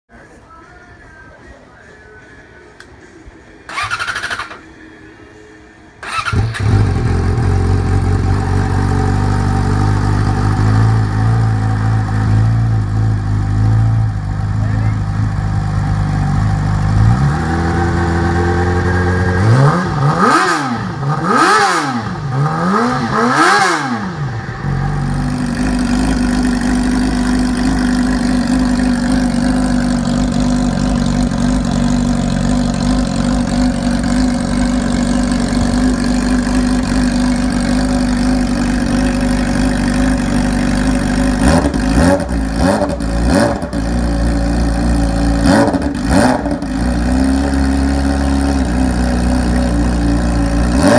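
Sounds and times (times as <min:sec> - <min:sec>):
motorcycle engine revving: 0:03.7 - 0:04.8, 0:06.0 - 0:50.9.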